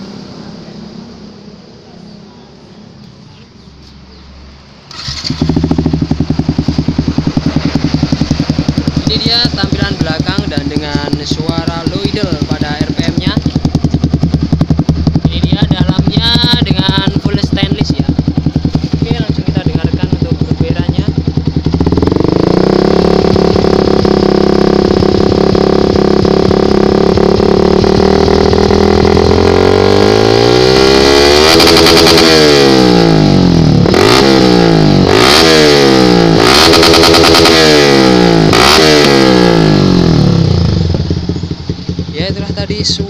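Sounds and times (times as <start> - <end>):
motorcycle engine revving: 4.9 - 43.0.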